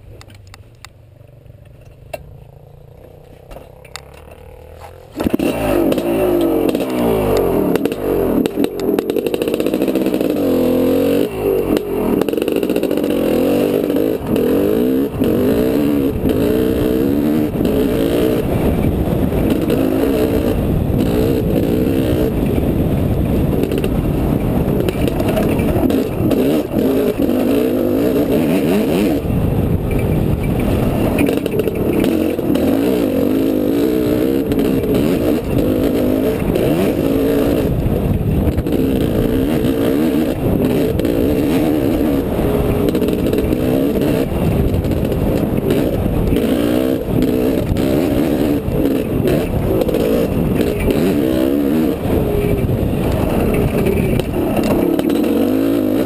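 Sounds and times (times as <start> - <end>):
dirt bike engine revving: 1.3 - 56.0.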